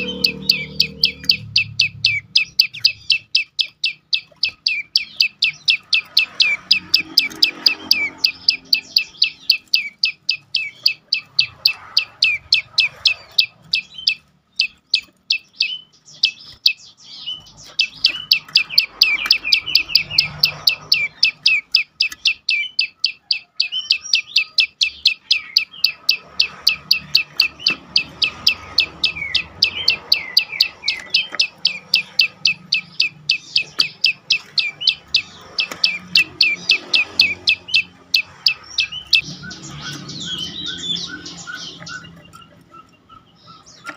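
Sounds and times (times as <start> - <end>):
bird chirping rapidly: 0.0 - 43.9.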